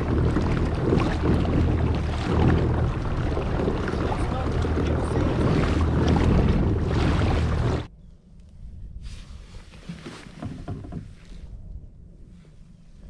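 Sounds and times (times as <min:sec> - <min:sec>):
water splashing along hull: 0:00.0 - 0:07.9, 0:09.3 - 0:13.0
wind on microphone: 0:00.0 - 0:12.4
steady low hum: 0:00.0 - 0:13.0.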